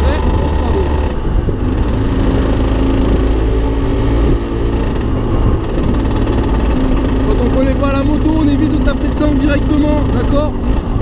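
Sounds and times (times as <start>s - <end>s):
two-stroke motorcycle engine: 0.0s - 11.0s
wind and road noise: 0.0s - 11.0s.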